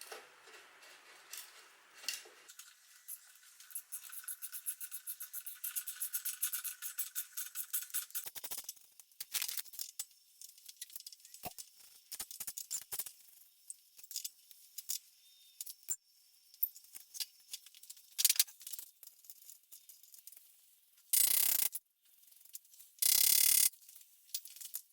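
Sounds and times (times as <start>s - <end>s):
small metal parts clicking and rattling: 1.3s - 24.9s.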